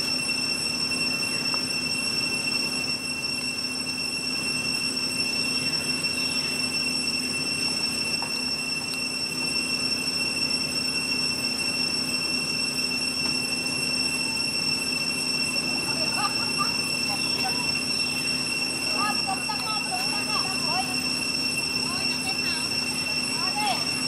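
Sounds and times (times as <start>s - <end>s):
cicadas droning: 0.0s - 24.0s.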